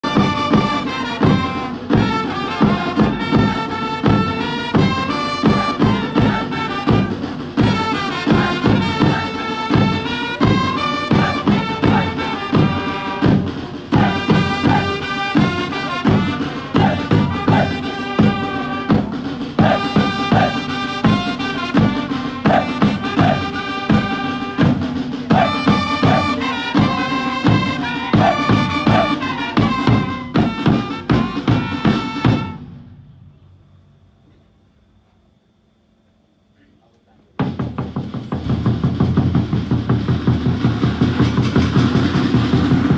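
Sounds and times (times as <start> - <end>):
steady drum beat: 0.0 - 32.6, 37.4 - 42.9.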